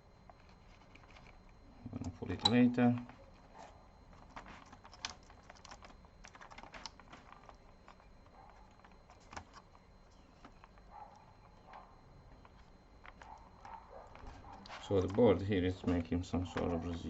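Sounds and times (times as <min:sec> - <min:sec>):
plastic laptop parts clicking: 0:00.3 - 0:03.2, 0:04.1 - 0:17.0.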